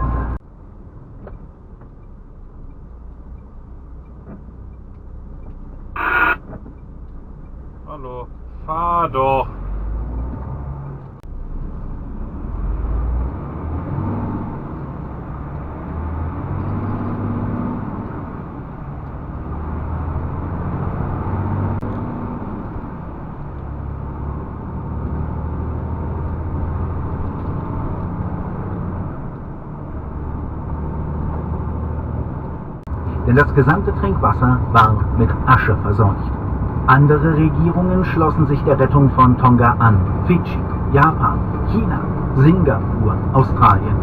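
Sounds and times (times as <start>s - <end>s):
diesel truck engine running: 0.0s - 44.0s
road noise: 0.0s - 44.0s.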